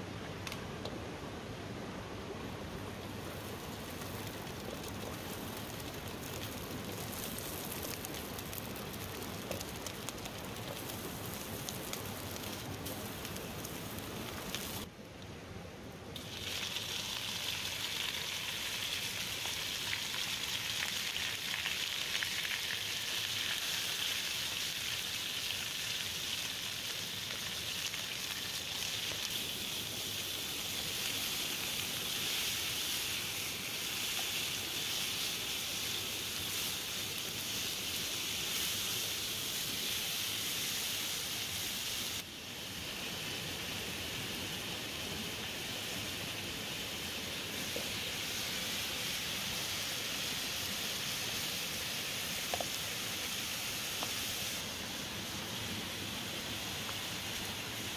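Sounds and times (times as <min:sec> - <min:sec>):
meat sizzling in a pan: 0:03.2 - 0:14.9, 0:16.2 - 0:57.9.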